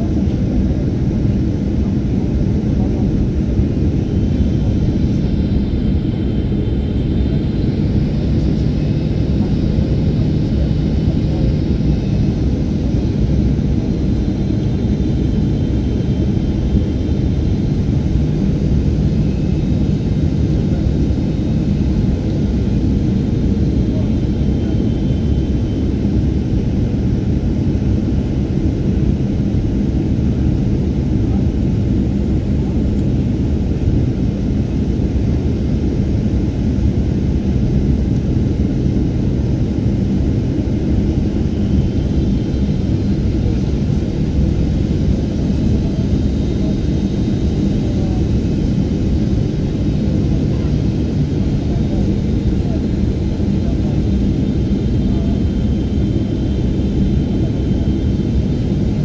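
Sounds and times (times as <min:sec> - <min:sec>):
airliner cabin engine rush: 0:00.0 - 0:59.0.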